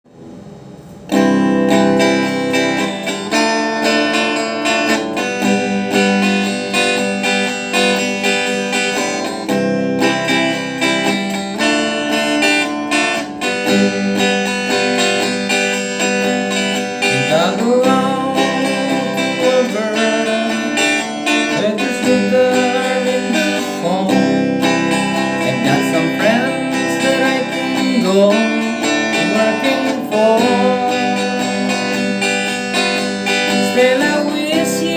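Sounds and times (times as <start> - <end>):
strummed acoustic guitar song: 0.3 - 34.9.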